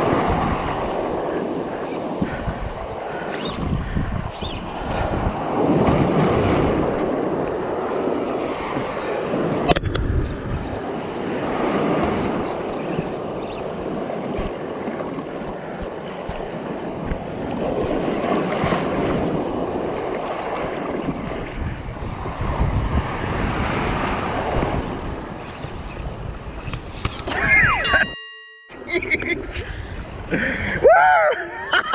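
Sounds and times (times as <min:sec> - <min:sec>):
wind buffeting microphone: 0:00.0 - 0:28.4.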